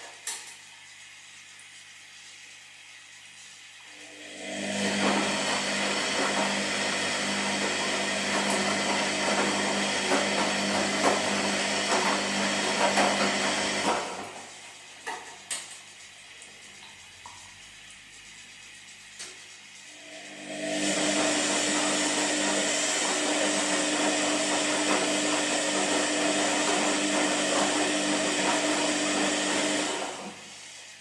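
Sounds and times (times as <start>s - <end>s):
washing machine drum churning: 4.2s - 18.2s, 19.0s - 30.5s.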